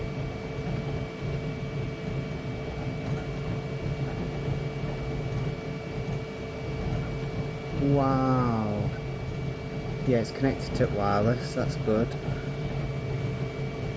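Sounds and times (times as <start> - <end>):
constant whining tones: 0.0 - 13.9
fans and motors humming: 0.0 - 13.9.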